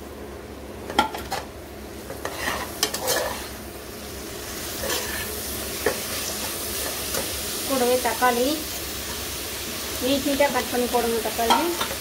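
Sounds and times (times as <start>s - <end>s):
onions sizzling in pot: 0.0s - 12.0s.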